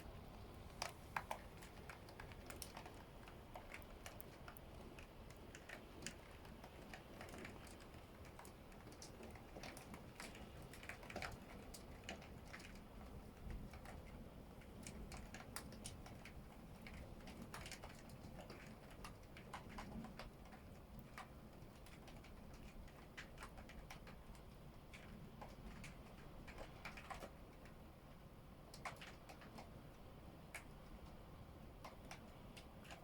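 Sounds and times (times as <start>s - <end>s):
low steady background noise: 0.0s - 33.0s.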